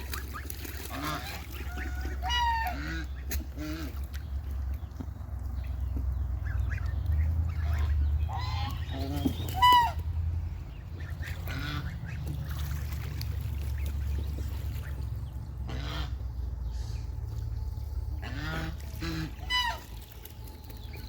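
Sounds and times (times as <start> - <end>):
geese honking: 0.0 - 4.2, 6.3 - 12.8, 13.6 - 17.0, 18.1 - 21.0
steady low rumble: 0.0 - 21.0.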